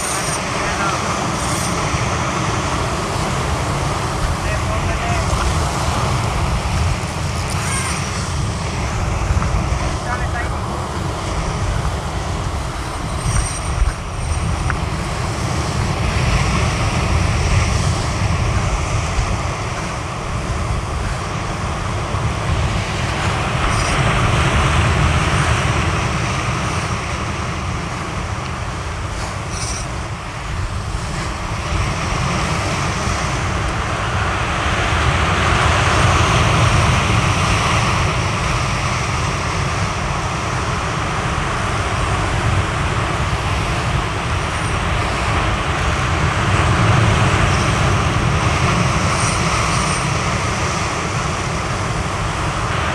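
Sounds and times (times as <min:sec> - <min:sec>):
surf breaking on rocky shore: 0:00.0 - 0:52.9.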